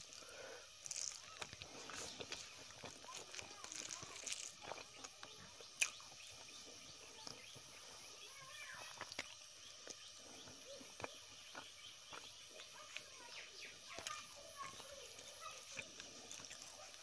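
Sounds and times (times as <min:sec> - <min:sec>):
wet rice squelching by hand: 0:00.0 - 0:17.0.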